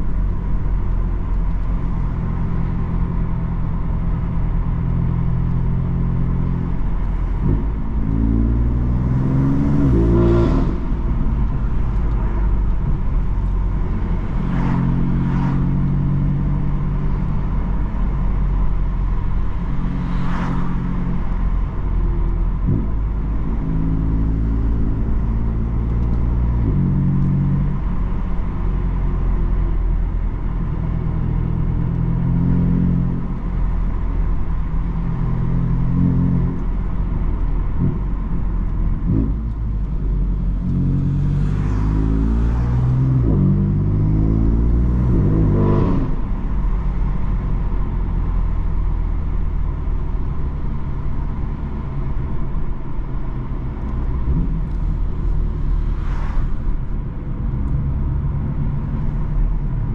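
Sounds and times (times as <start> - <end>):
car engine driving: 0.0 - 59.9.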